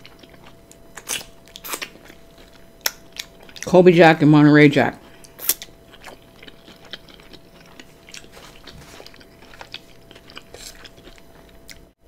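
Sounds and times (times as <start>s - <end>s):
person chewing: 0.0s - 3.8s, 5.0s - 12.0s
faint steady hum: 0.0s - 12.0s.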